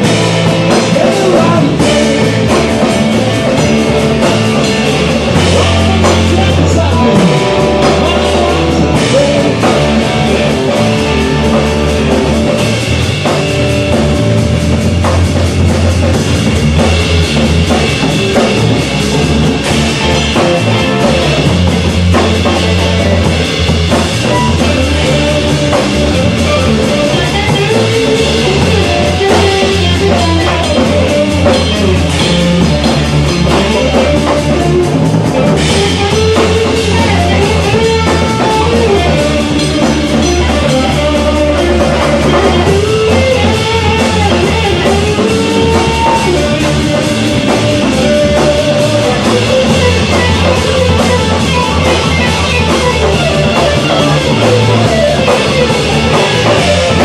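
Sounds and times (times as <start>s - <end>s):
bass guitar: 0.0s - 57.0s
drum kit: 0.0s - 57.0s
electric guitar melody: 0.0s - 57.0s.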